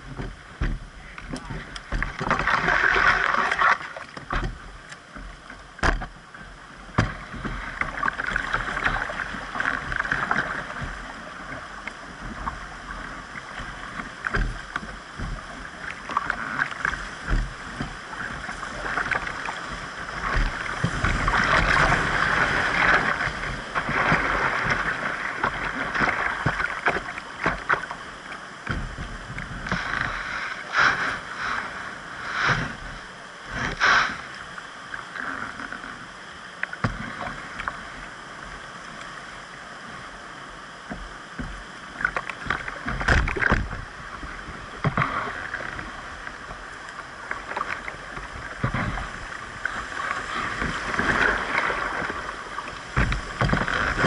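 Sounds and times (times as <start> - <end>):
paddle knocks and splashes: 0.0 - 31.6, 36.7 - 37.8, 40.9 - 54.0.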